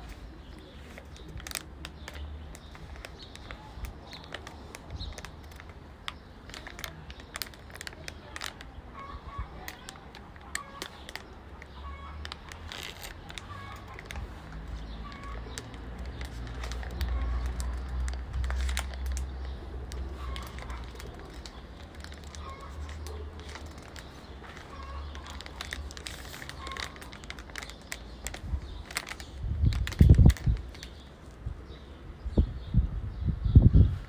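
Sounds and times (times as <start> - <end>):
dry grass rustling and crackling: 0.0 - 31.4.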